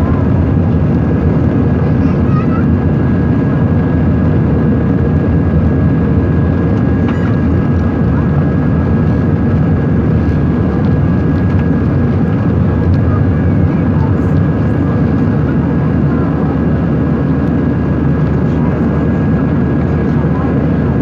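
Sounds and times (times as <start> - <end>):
airliner cabin engine noise: 0.0 - 21.0.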